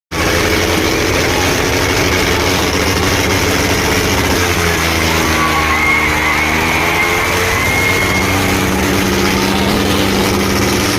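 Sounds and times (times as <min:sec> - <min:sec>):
diesel tractor engine running: 0:00.1 - 0:10.9.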